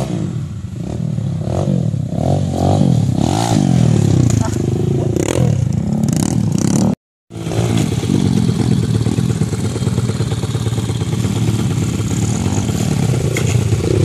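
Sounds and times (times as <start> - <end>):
dirt bike engine running: 2.3 - 14.0.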